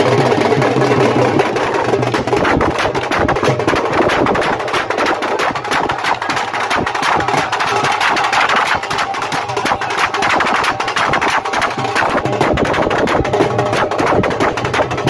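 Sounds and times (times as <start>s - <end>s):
rapid barrel drumming: 0.0s - 15.0s.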